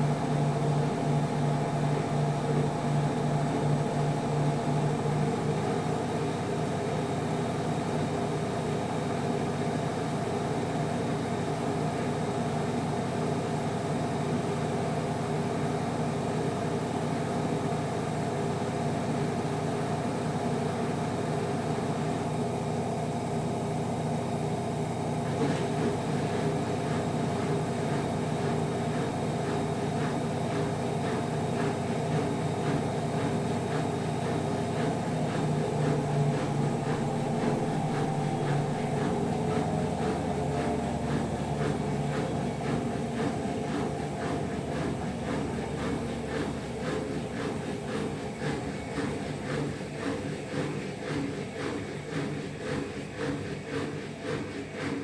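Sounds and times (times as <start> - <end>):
washing machine motor hum: 0.0 - 55.0.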